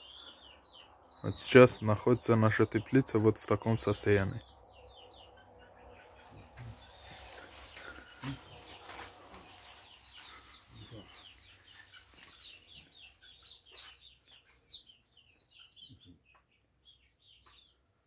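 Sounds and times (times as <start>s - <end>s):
chicks cheeping: 0.0s - 18.0s.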